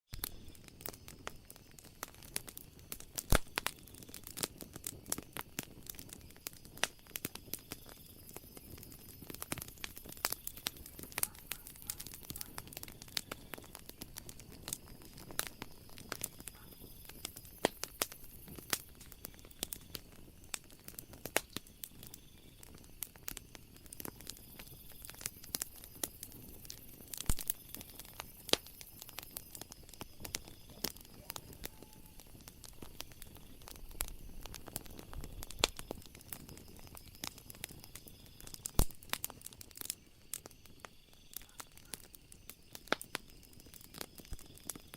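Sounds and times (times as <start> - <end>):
wood fire crackling: 0.1 - 44.9.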